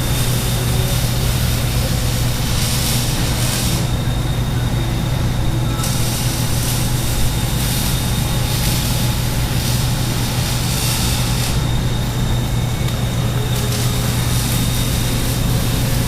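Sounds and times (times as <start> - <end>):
hiss: 0.0 - 4.2, 5.7 - 12.5, 13.2 - 16.0
low machine hum: 0.0 - 16.0.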